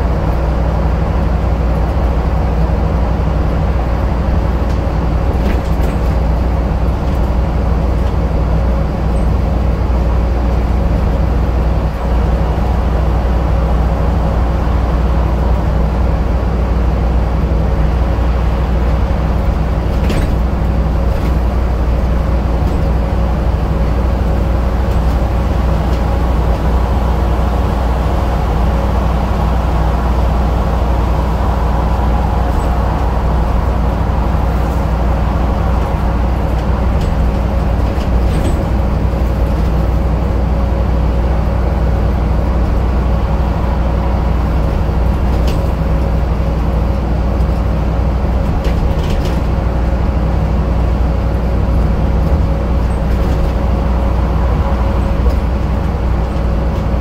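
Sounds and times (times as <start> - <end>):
constant whine: 0.0 - 57.0
diesel bus engine running: 0.0 - 57.0.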